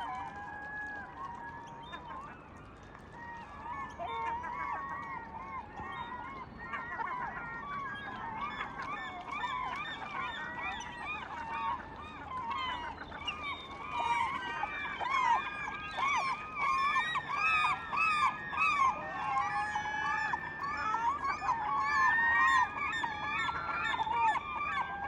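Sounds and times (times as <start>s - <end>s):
flock of birds honking: 3.5s - 25.0s.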